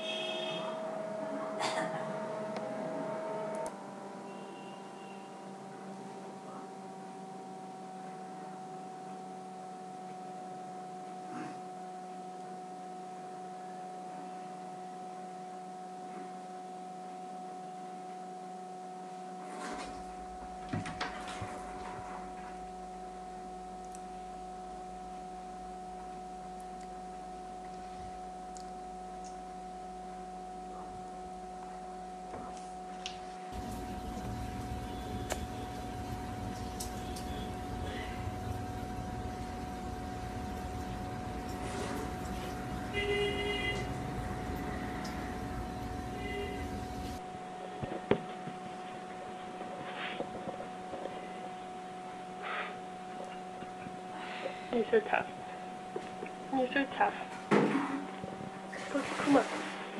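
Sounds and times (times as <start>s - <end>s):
steady hum of held tones: 0.0s - 59.9s.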